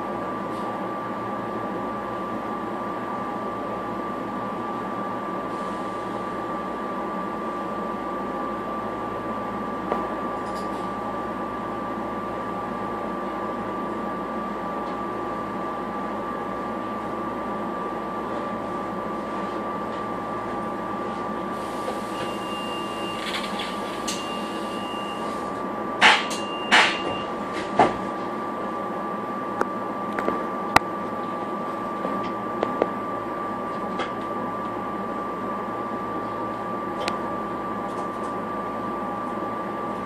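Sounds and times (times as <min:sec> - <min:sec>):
railcar interior hum and rumble: 0:00.0 - 0:40.0.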